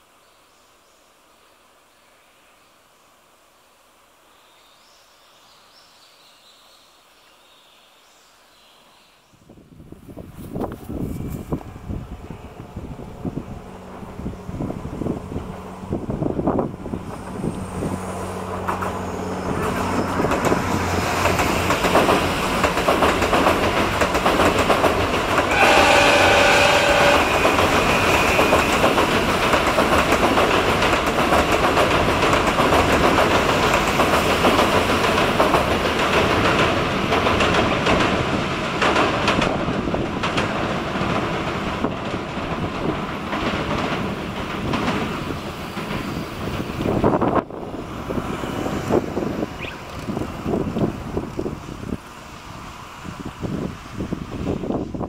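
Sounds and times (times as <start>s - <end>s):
train rumbling over bridge: 9.5s - 55.0s.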